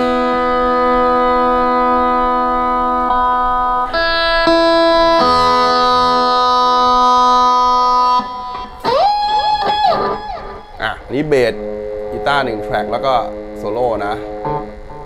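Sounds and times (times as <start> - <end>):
electric guitar solo: 0.0 - 15.0.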